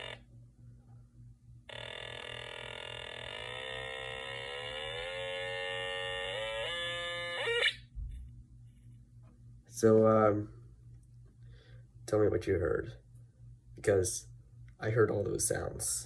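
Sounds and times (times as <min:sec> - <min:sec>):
buzzy electronic test tone: 0:00.0 - 0:00.3, 0:01.7 - 0:16.0.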